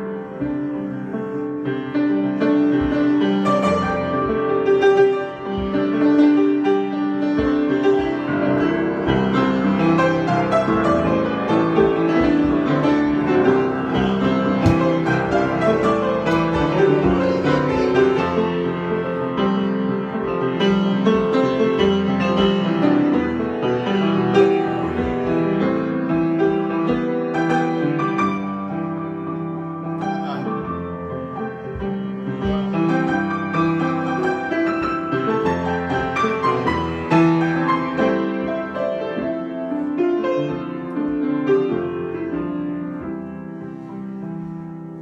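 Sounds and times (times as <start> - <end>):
piano improvisation: 0.0 - 45.0.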